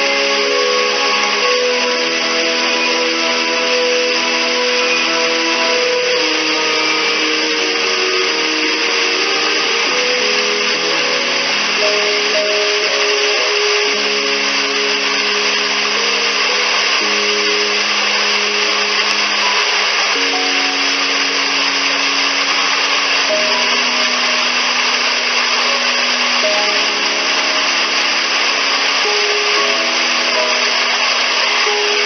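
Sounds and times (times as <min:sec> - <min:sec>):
slow ambient music: 0:00.0 - 0:32.0
waterfall rushing: 0:00.0 - 0:32.0.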